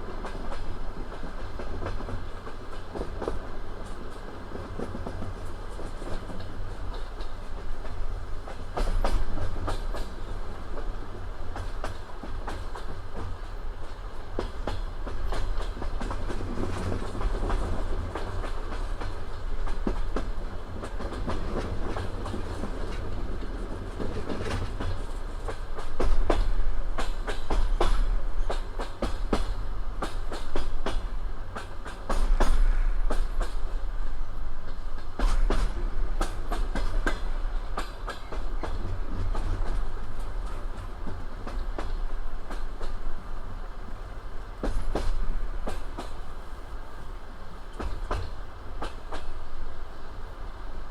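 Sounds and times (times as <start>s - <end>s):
train low rumble: 0.0s - 50.9s
train wheels clattering on rails: 0.0s - 50.9s.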